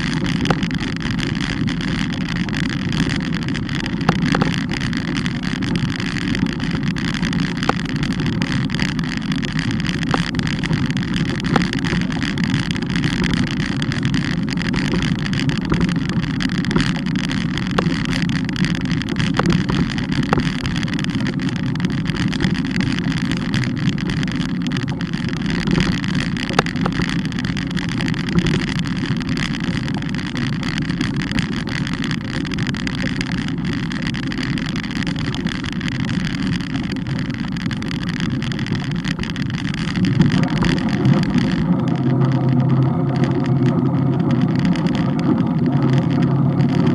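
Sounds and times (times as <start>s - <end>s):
bike riding rumble: 0.0s - 46.9s
faint clicks: 0.0s - 46.9s
wind on microphone: 0.0s - 46.9s.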